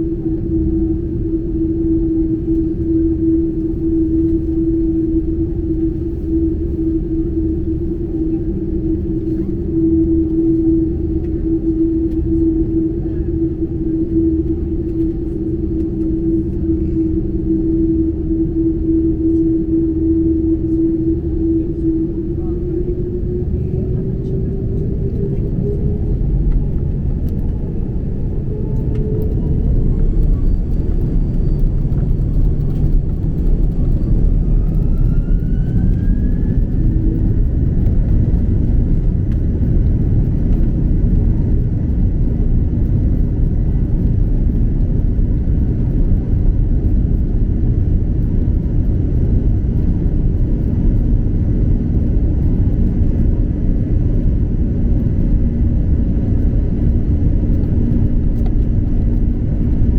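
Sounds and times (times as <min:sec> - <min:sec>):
jet engine cabin rumble: 0:00.0 - 0:59.9
jet engine whine: 0:00.0 - 0:59.9.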